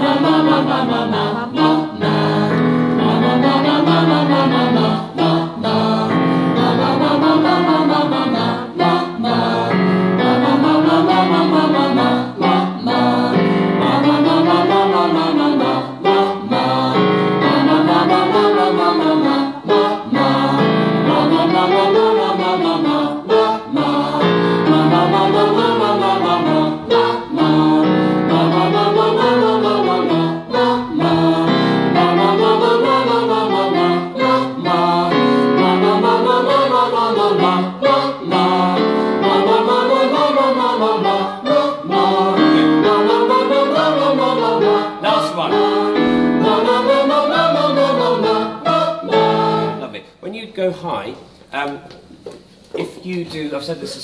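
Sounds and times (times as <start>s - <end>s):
choir singing scales: 0.0s - 50.0s
piano accompaniment: 0.0s - 50.3s.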